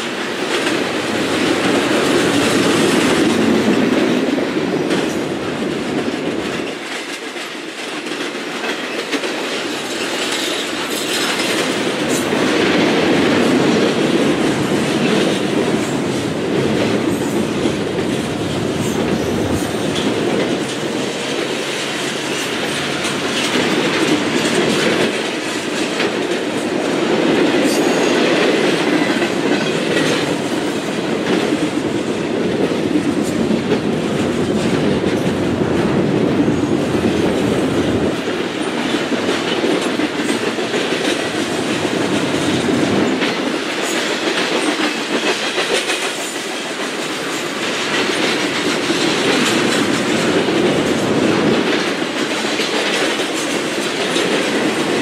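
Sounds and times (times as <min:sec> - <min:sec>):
train wheels rumbling on rail: 0:00.0 - 0:55.0
wheels clicking over rail joints: 0:00.0 - 0:55.0.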